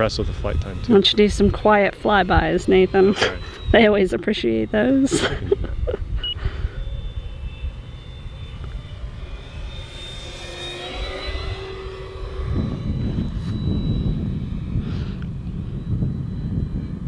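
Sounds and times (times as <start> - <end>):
electric motor propeller whine: 0.0 - 17.0
low rumble: 0.0 - 17.0
lower tone: 0.0 - 17.0.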